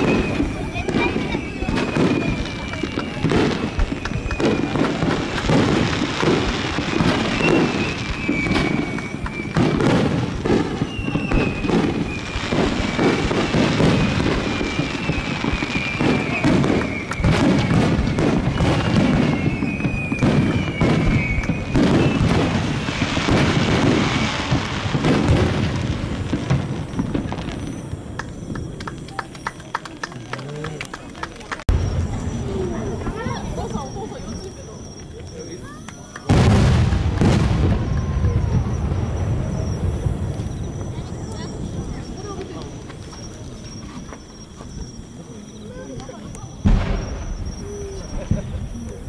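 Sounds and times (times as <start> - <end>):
fireworks booming and crackling: 0.0 - 49.0
fireworks falling whistles: 0.0 - 49.0.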